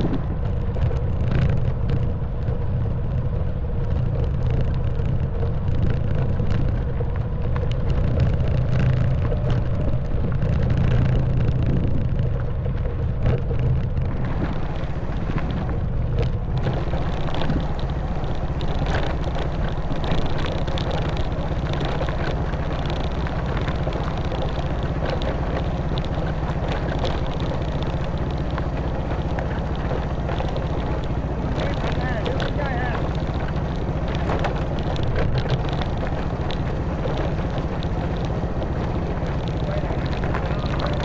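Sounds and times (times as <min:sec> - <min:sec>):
motorcycle engine running: 0:00.0 - 0:41.0
wind and road noise hiss: 0:00.0 - 0:41.0
scattered clicks: 0:03.8 - 0:41.0.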